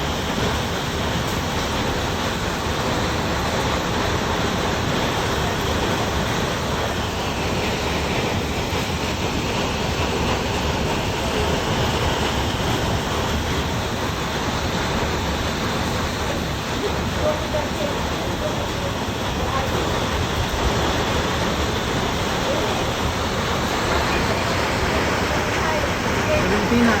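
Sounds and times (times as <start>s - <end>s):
hail and rain pelting down: 0.0s - 27.0s.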